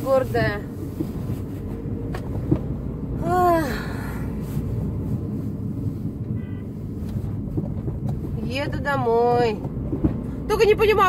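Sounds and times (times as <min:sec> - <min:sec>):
car driving rumble from cabin: 0:00.0 - 0:11.0.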